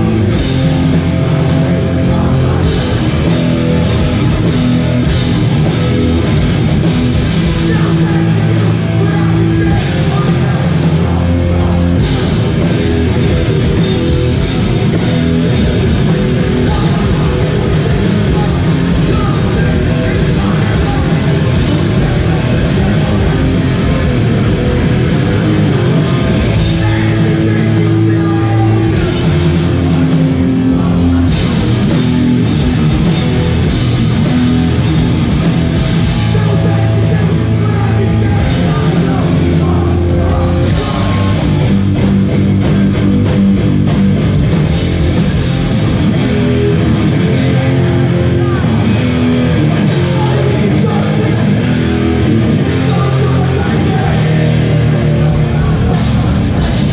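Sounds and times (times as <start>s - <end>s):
bass guitar: 0.0s - 56.9s
distorted guitars: 0.0s - 56.9s
drums: 0.0s - 56.9s
vocals: 0.0s - 56.9s.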